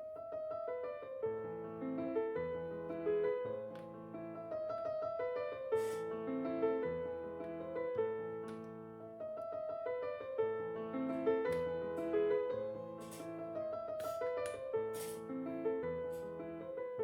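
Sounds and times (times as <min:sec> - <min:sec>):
calm piano music: 0:00.0 - 0:17.0.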